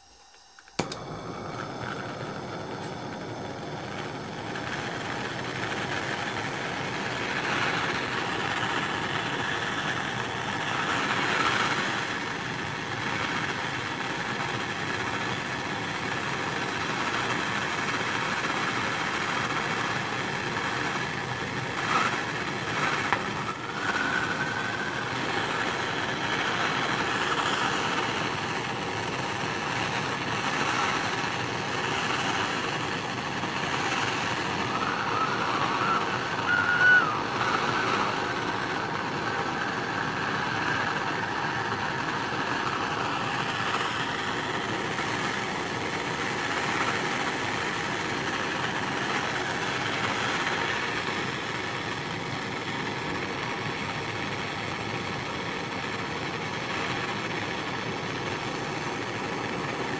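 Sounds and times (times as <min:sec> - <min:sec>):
torch flame hissing: 0:00.0 - 0:59.9.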